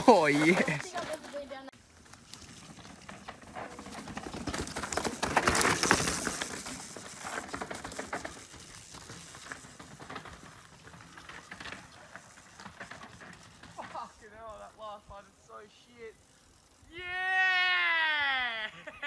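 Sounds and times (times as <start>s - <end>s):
bike tyres crunching over gravel: 0.0s - 16.8s.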